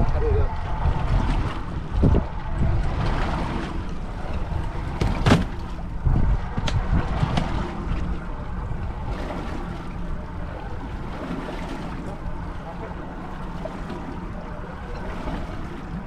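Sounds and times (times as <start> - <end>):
water lapping against boat hull: 0.0 - 16.0
wind buffeting microphone: 0.0 - 16.0.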